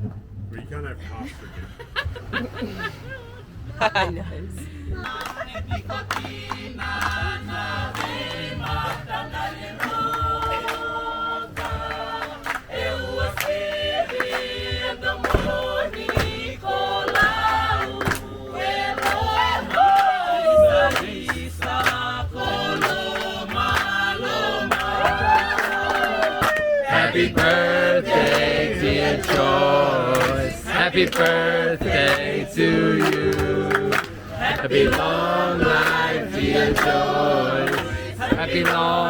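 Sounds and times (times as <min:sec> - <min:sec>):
group singing: 0:04.9 - 0:39.0.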